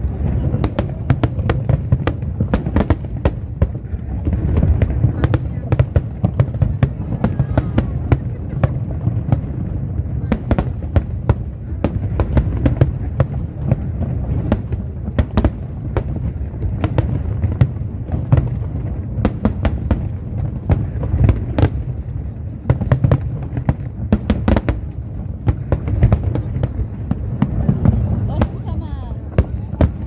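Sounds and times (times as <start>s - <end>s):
fireworks cracks and bangs: 0.0s - 30.0s.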